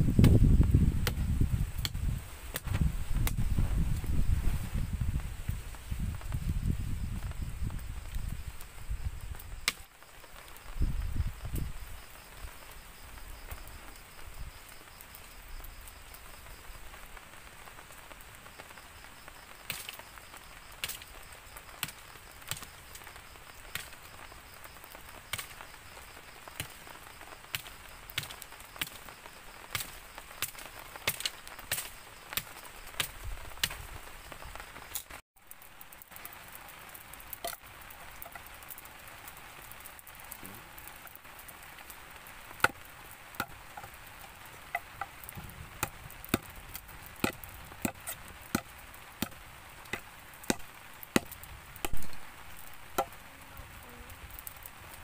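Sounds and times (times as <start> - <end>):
campfire crackling and popping: 0.0 - 55.0
fire hissing: 0.0 - 55.0.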